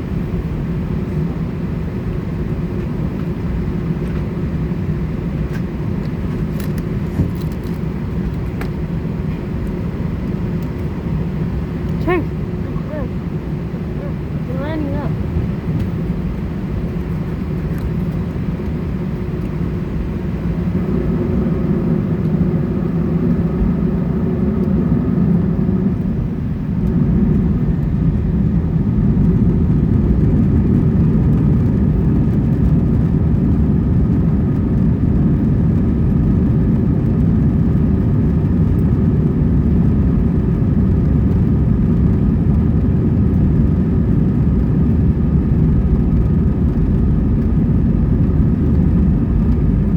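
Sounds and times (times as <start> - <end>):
jet engines rumbling in cabin: 0.0 - 49.9.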